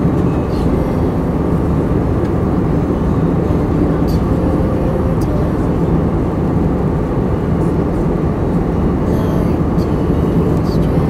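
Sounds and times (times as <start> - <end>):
airliner engines roaring in cabin: 0.0 - 11.0.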